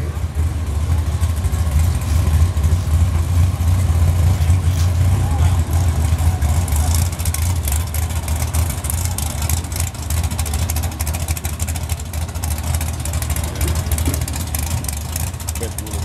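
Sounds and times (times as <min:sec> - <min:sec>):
car engine idling loudly: 0:00.0 - 0:16.0.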